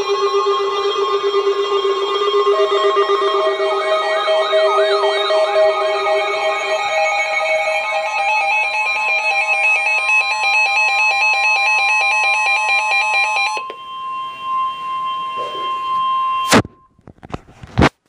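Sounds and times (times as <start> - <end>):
fast warbling alarm: 0.0 - 17.2
steady single-pitch tone: 0.0 - 17.4.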